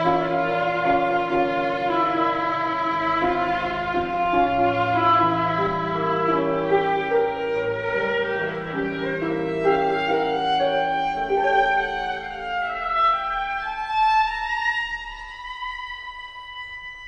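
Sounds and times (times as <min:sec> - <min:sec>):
low sustained accompaniment: 0:00.0 - 0:17.0
violin melody: 0:00.0 - 0:17.0.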